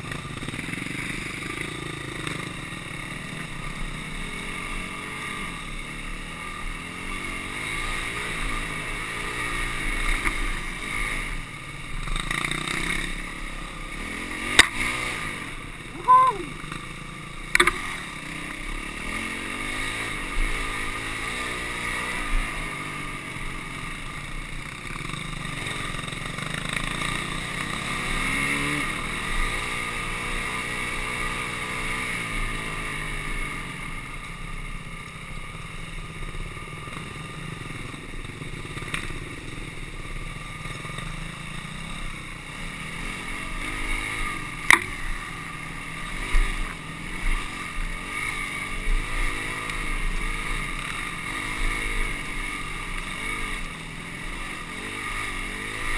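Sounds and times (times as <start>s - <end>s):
dirt bike engine revving: 0.2s - 34.1s, 40.2s - 55.9s.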